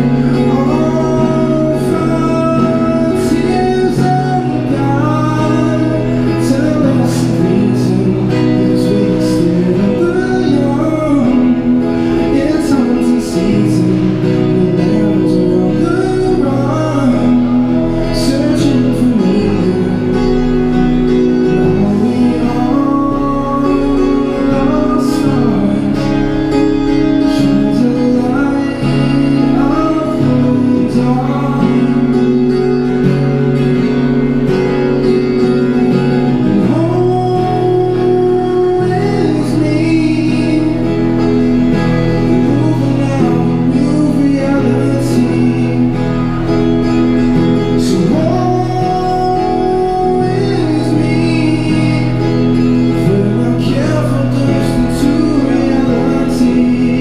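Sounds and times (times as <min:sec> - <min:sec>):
acoustic guitar strummed: 0:00.0 - 0:57.0
person singing: 0:00.0 - 0:57.0.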